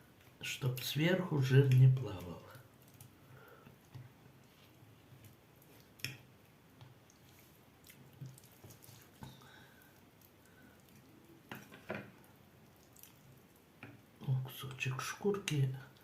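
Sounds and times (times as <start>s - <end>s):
soft wet squishes: 0.0s - 16.0s.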